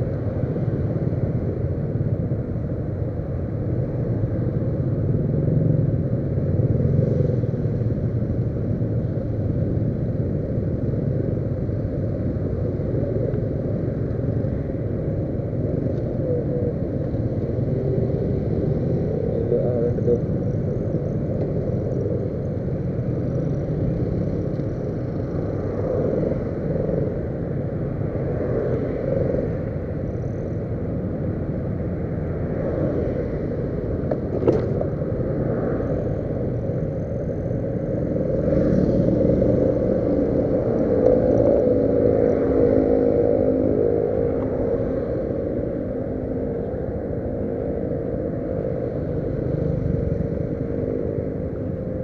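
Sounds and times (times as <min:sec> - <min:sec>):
road and wind noise: 0:00.0 - 0:52.0.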